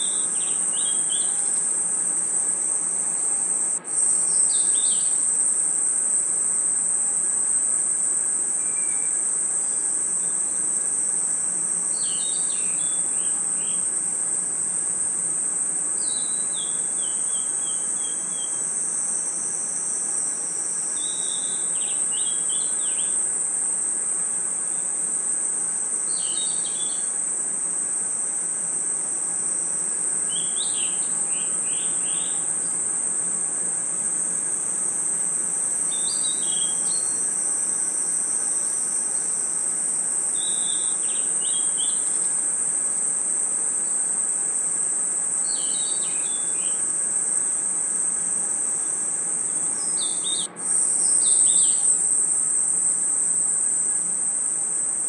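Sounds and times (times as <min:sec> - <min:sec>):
crickets trilling: 0:00.0 - 0:55.0
lower cricket chirps: 0:00.0 - 0:55.0.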